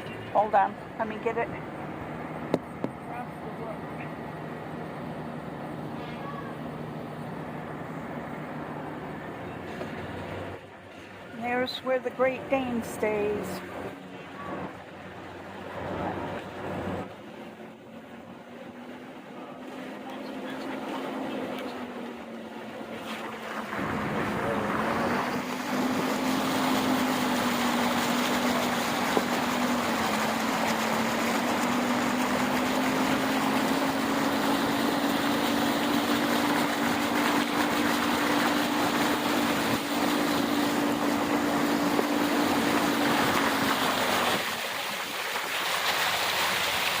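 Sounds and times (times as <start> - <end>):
engine hum: 0.0 - 47.0
rushing water: 0.0 - 47.0.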